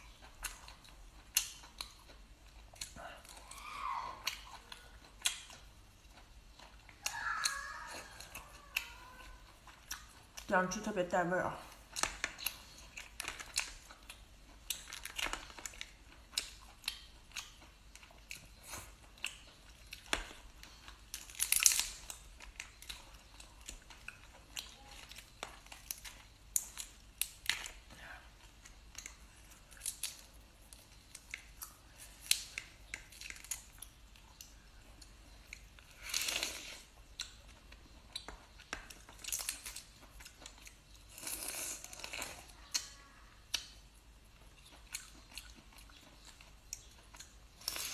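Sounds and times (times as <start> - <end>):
chewing: 0.0 - 10.6, 11.6 - 47.9.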